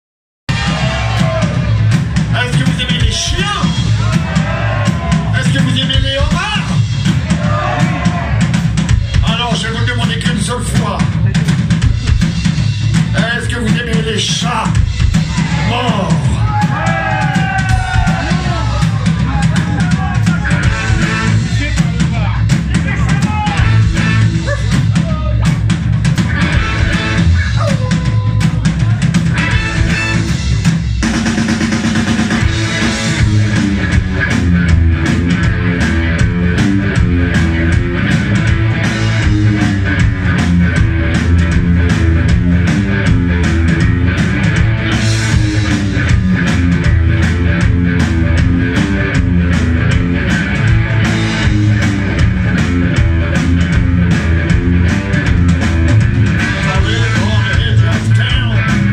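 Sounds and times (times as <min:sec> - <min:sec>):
rock band playing live: 0:00.5 - 0:58.9.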